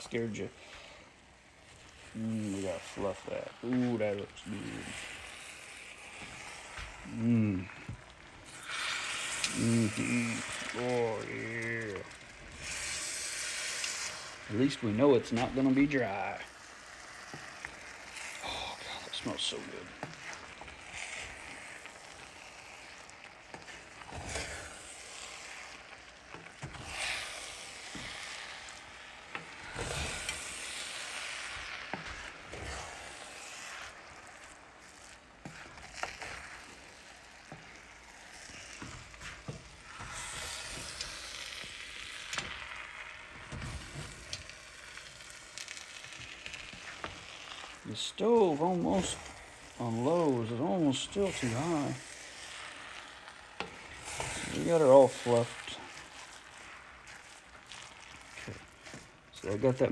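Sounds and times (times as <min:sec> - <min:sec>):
rice sizzling: 0:00.0 - 0:59.9
utensil scraping a pot: 0:00.0 - 0:59.9.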